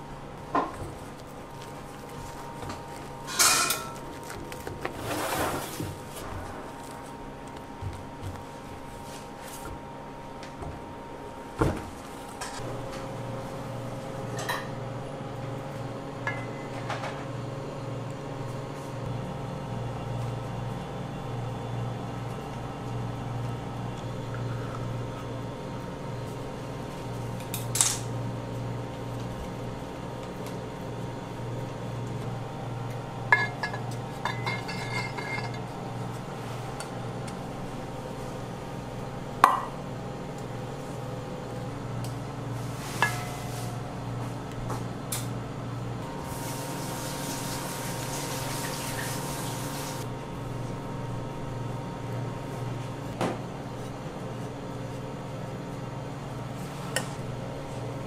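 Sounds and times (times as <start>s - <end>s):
steady low hum: 0.0s - 47.1s.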